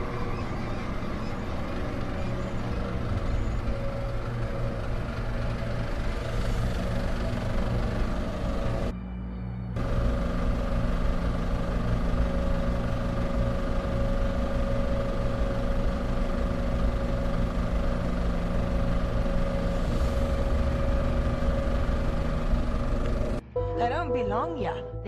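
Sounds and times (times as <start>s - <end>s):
vehicle engine running: 0.0s - 8.9s, 9.8s - 23.4s.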